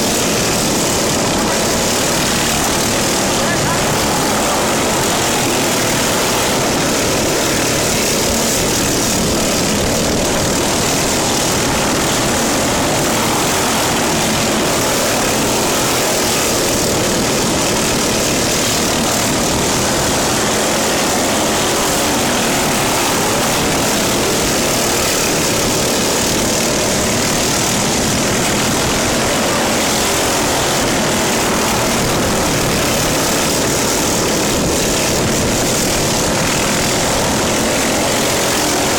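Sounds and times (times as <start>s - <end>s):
lawn mower engine droning: 0.0s - 38.9s.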